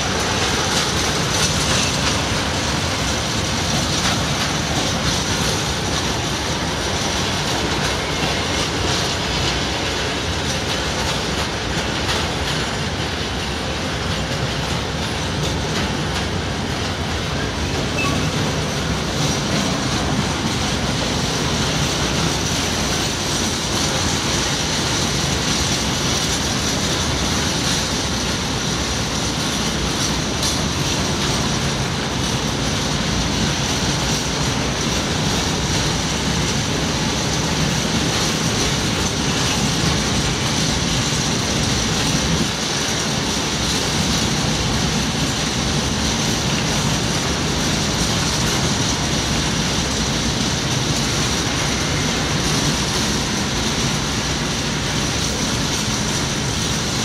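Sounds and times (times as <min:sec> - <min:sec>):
freight wagons rumbling on rails: 0:00.0 - 0:57.0.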